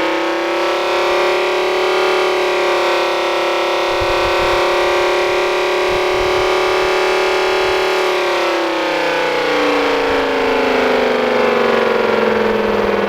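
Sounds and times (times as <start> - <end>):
electric air raid siren: 0.0 - 13.0.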